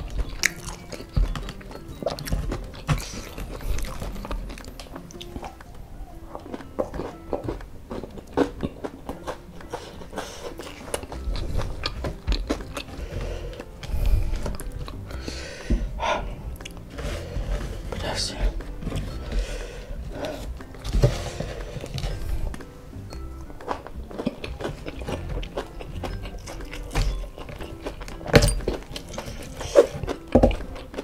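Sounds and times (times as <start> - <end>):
chewing crunchy fried chicken: 0.0 - 31.0.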